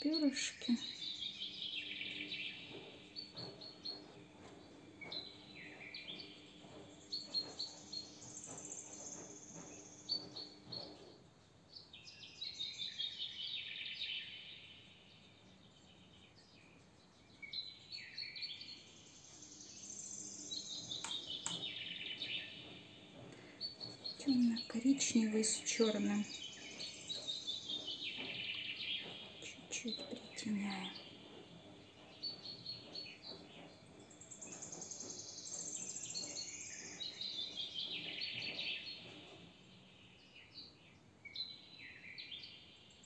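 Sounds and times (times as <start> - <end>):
small birds twittering: 0.0 - 43.0.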